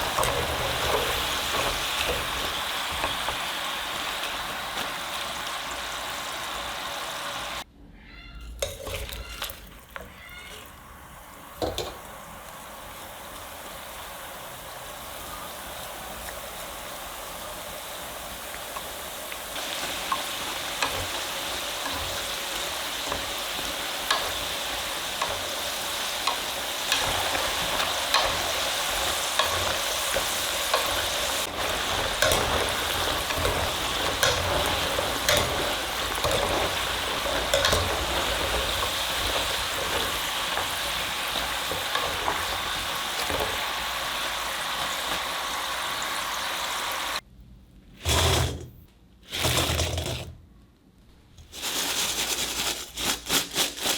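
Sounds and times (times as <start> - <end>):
fries sizzling in oil: 0.0 - 7.7, 8.4 - 47.2.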